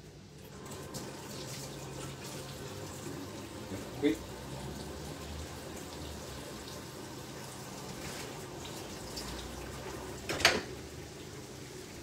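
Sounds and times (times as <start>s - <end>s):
celery sizzling in oil: 0.0s - 12.0s.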